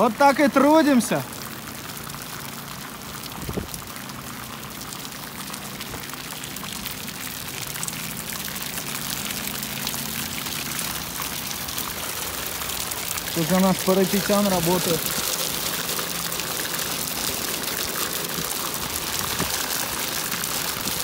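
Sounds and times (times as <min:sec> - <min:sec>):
rain on metal roof: 0:00.0 - 0:21.0.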